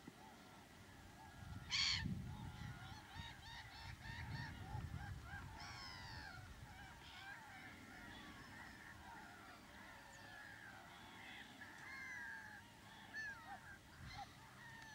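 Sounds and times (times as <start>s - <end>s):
distant waterbirds calling: 0.0s - 14.9s.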